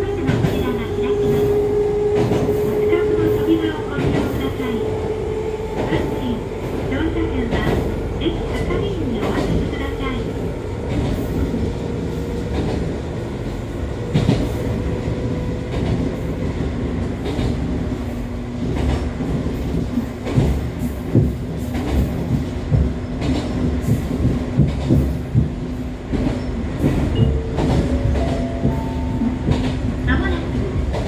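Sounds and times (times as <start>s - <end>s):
electric railcar drive whine: 0.0s - 31.0s.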